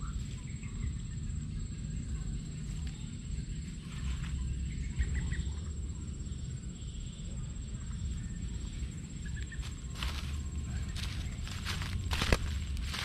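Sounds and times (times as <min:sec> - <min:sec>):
low microphone rumble: 0:00.0 - 0:13.0.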